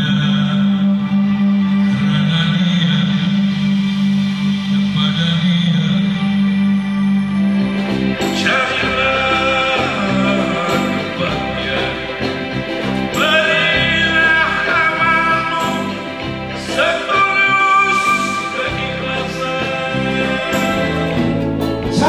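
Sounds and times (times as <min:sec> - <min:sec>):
man singing: 0:00.0 - 0:07.0, 0:08.2 - 0:22.0
bass guitar: 0:00.0 - 0:22.0
electric guitar: 0:00.0 - 0:22.0.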